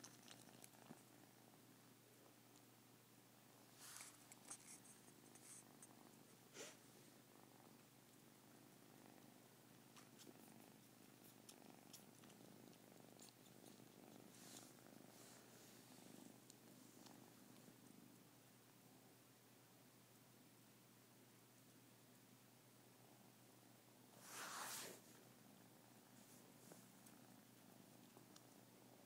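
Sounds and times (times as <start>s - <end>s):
kitten purring: 0.0s - 20.8s, 21.5s - 29.0s.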